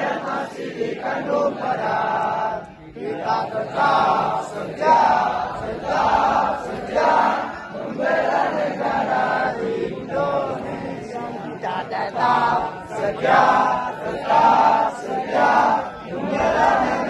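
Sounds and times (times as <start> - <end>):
crowd singing in unison: 0.0 - 17.0.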